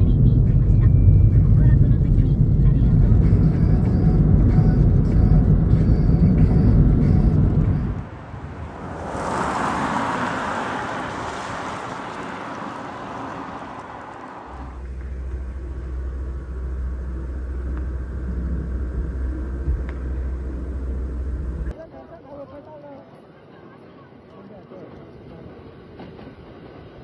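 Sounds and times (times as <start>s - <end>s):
road vehicle rush: 0.0s - 21.8s
steady low rumble: 0.0s - 21.8s.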